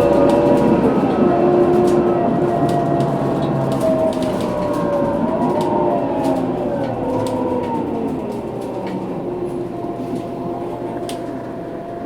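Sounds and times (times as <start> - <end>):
bus differential whining: 0.0 - 12.0
bus engine rumble: 0.0 - 12.0.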